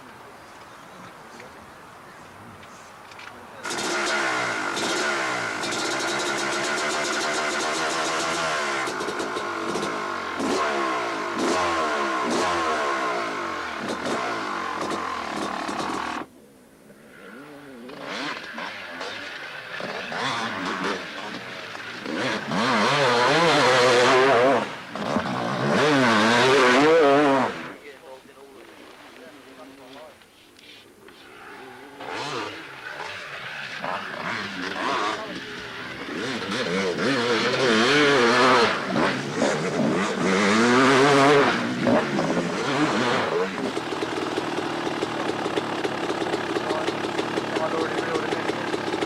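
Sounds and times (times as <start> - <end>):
motocross bike engine revving: 3.6 - 16.3, 17.3 - 27.8, 31.2 - 49.0.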